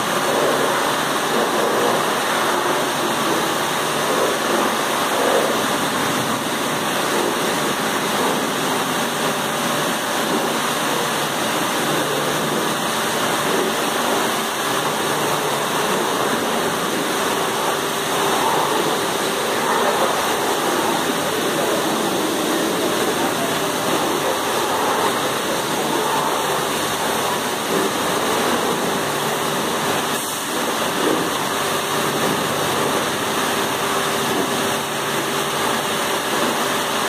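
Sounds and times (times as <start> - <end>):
water jets spraying: 0.0 - 37.0.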